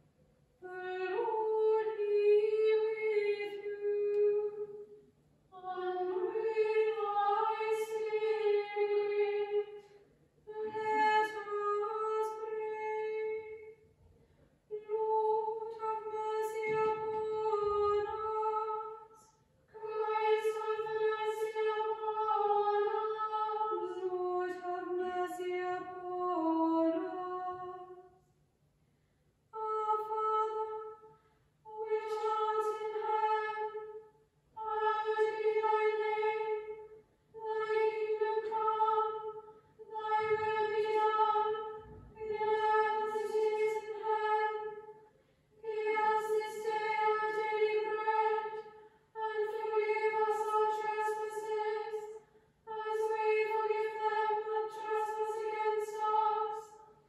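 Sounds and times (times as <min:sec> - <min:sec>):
female choir singing: 0:00.6 - 0:04.8, 0:05.6 - 0:09.8, 0:10.5 - 0:13.7, 0:14.7 - 0:27.9, 0:31.7 - 0:45.0, 0:45.6 - 0:56.9.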